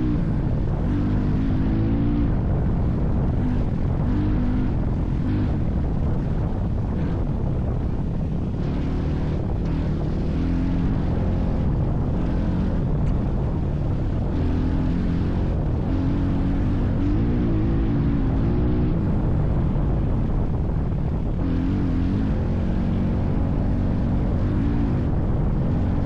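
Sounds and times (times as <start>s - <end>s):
vehicle engine deep rumble: 0.0s - 26.0s.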